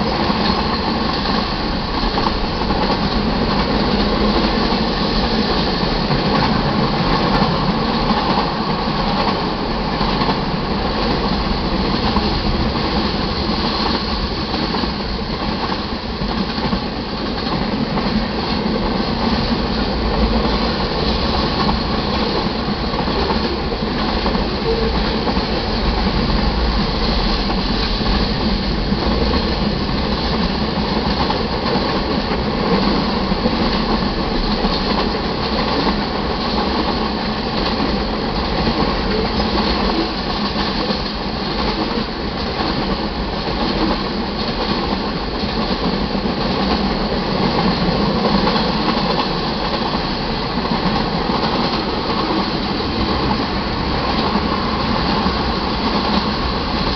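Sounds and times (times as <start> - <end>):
steel wheels clattering on rails: 0.0 - 56.9.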